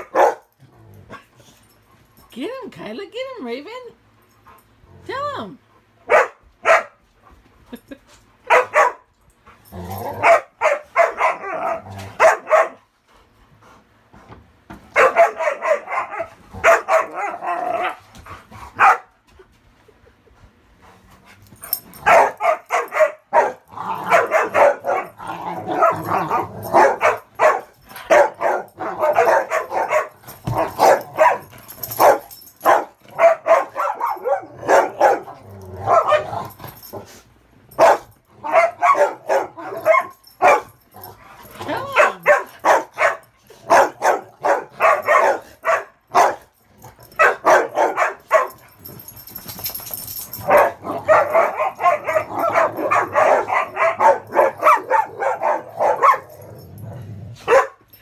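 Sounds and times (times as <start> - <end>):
dogs barking in play: 0.0 - 2.3, 4.0 - 7.7, 8.3 - 13.0, 14.5 - 19.5, 21.2 - 58.0.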